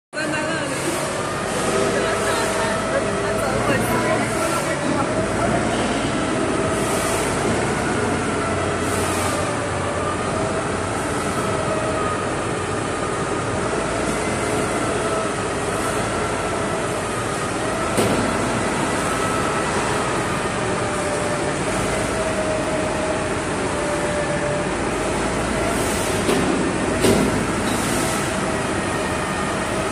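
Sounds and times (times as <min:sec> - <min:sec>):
machinery drone with whine: 0:00.2 - 0:29.9.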